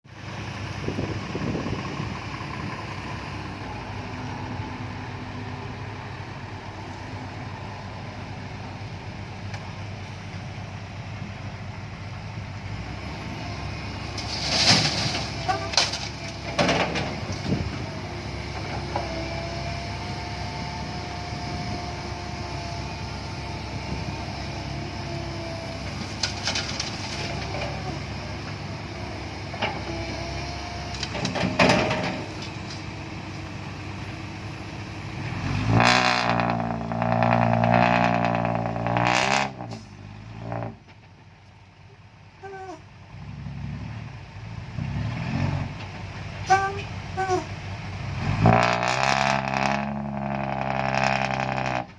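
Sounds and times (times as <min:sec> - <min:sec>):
diesel engine rumble: 0:00.0 - 0:51.9
diesel engine revving: 0:00.1 - 0:41.0, 0:41.7 - 0:51.9.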